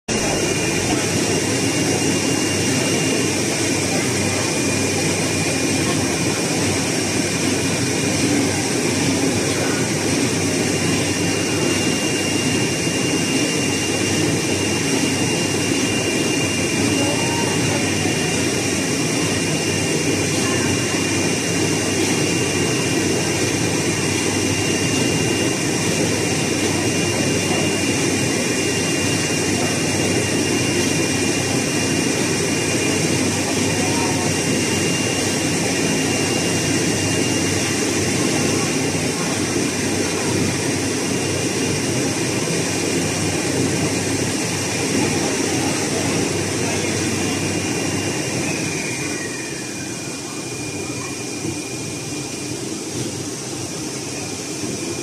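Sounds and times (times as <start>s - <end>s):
cutting machine running: 0.1s - 48.6s
faint high whine: 0.1s - 55.0s.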